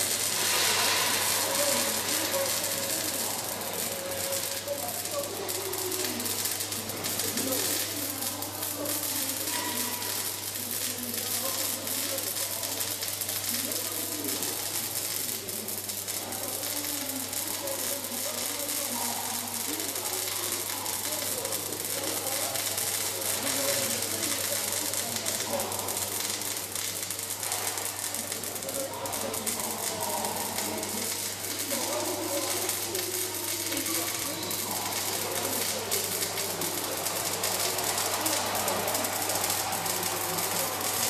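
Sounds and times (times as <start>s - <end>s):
welding arc crackling: 0.0s - 41.0s.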